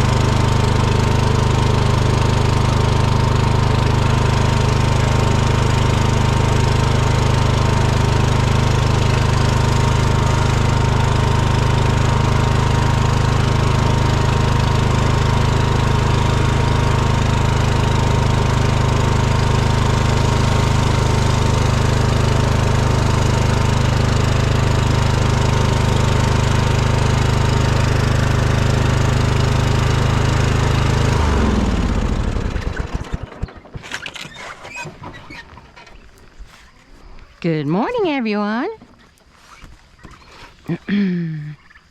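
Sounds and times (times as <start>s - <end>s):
engine running and winding down: 0.0s - 33.6s.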